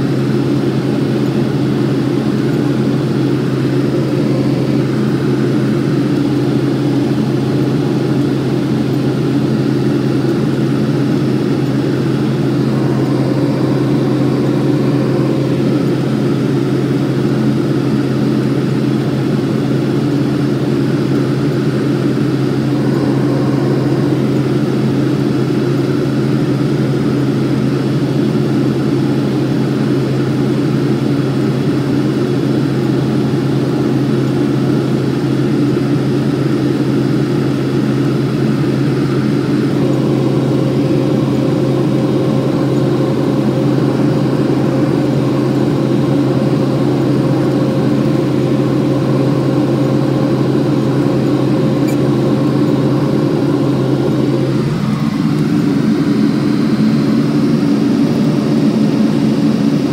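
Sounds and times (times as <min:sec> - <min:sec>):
combine harvester droning: 0:00.0 - 0:59.9.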